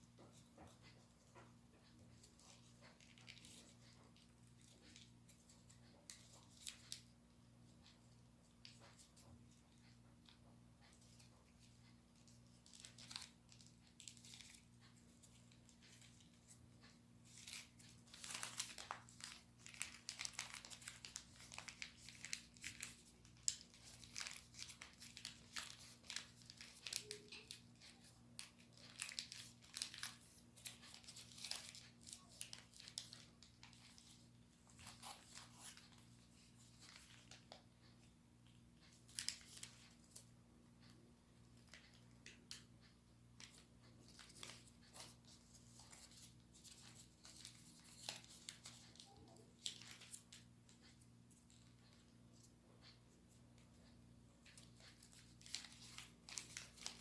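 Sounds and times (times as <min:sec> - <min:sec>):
paper rustling and crinkling: 0:00.2 - 0:07.1, 0:08.6 - 0:40.9, 0:43.4 - 0:52.1, 0:54.4 - 0:57.0.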